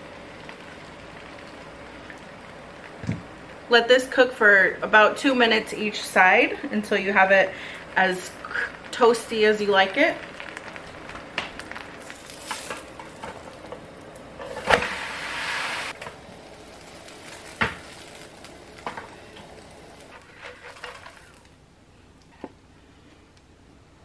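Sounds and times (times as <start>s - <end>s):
quesadilla sizzling in a pan: 0.0s - 21.6s.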